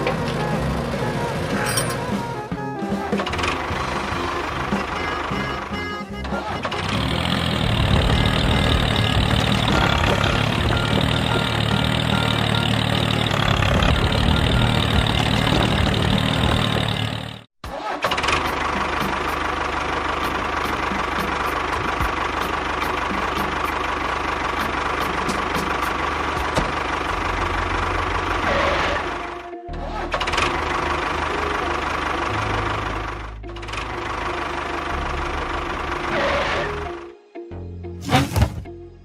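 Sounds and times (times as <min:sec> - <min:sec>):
engine running: 0:00.0 - 0:37.2.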